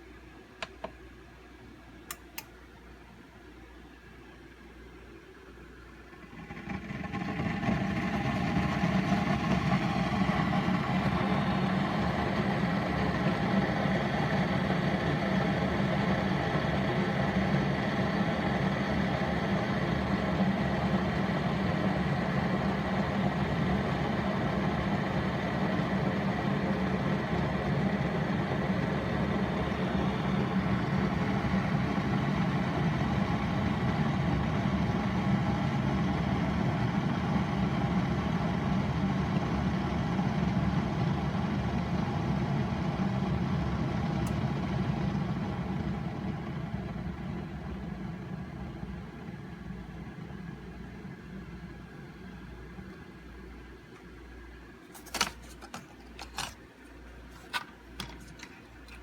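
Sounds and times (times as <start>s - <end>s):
coffee maker pump humming: 6.0s - 53.0s, 54.9s - 59.0s.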